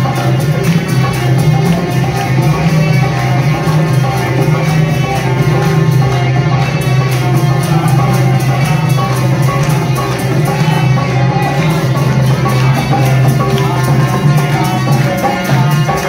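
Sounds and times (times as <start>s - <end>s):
banjo playing a tune: 0.0s - 16.0s
hand drum beat: 0.0s - 16.0s
hand-clapping: 0.0s - 16.0s.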